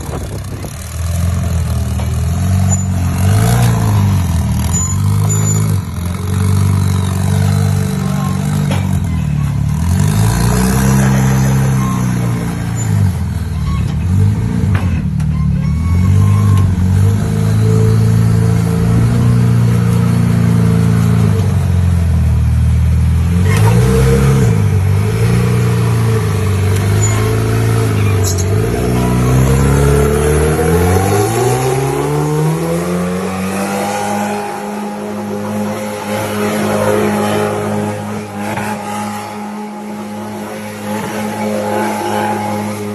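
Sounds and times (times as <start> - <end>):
car engine revving: 0.0 - 15.2, 15.8 - 42.9.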